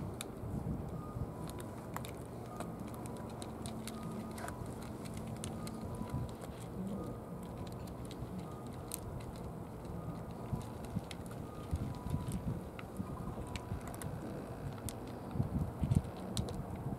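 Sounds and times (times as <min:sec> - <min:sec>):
cats chewing and licking: 0:00.0 - 0:16.9
steady low rumble: 0:00.0 - 0:16.9.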